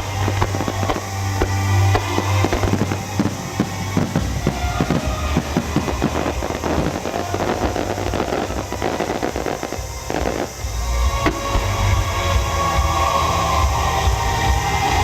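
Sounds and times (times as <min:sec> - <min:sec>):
fireworks bursting and crackling: 0:00.0 - 0:15.0
music with heavy bass: 0:00.0 - 0:15.0.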